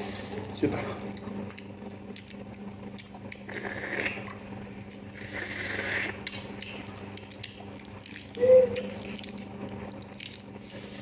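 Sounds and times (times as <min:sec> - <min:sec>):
eating crunching: 0:00.3 - 0:11.0.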